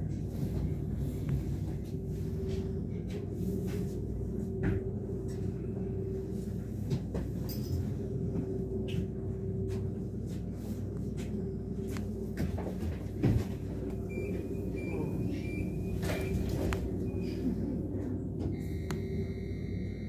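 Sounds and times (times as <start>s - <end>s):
train running low rumble: 0.0s - 20.0s
train whine: 0.0s - 20.0s.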